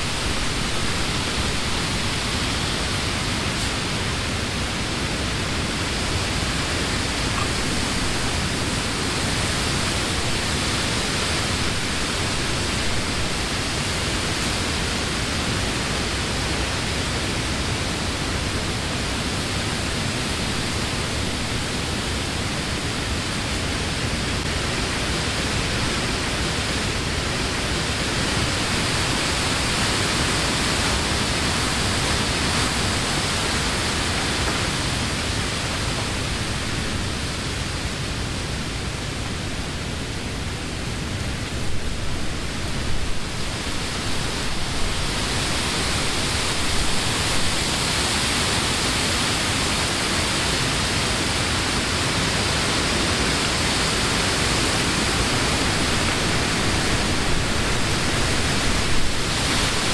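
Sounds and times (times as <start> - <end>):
wind in leafy trees: 0.0 - 59.9.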